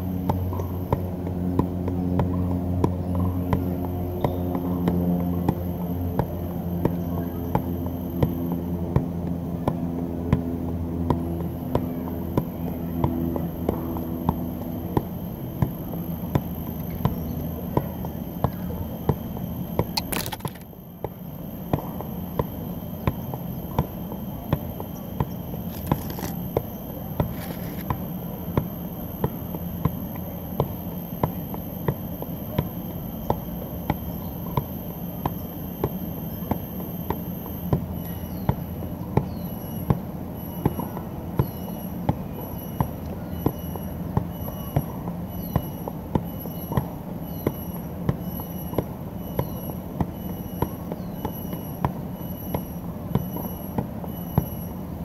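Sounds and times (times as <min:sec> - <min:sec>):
soccer ball taps: 0:00.2 - 0:32.0, 0:40.6 - 0:54.7.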